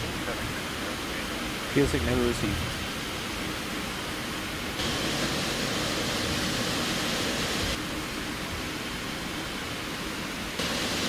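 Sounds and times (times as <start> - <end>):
air-conditioning airflow: 0.0 - 11.0
idling jet engines: 0.0 - 11.0.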